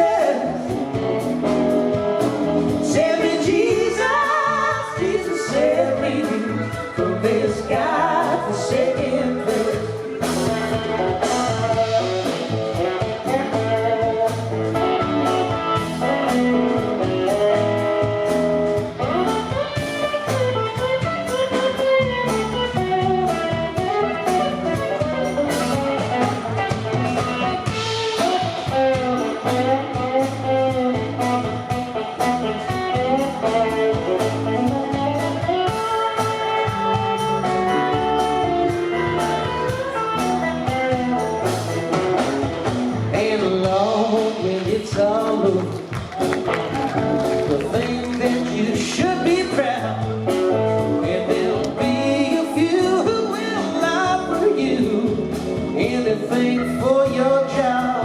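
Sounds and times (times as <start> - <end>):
bass guitar: 0.0 - 58.0
lead guitar: 0.0 - 58.0
steady drum beat: 0.0 - 58.0.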